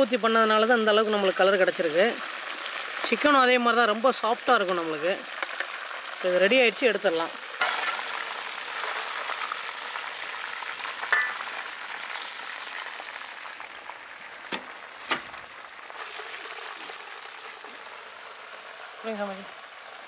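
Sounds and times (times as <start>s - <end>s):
chicken deep-frying in oil: 0.0s - 20.0s.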